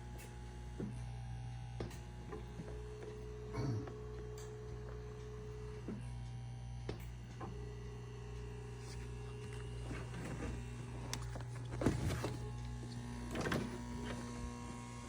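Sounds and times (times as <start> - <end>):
massage chair motors humming: 0.0 - 15.0
motor whine: 0.0 - 15.0.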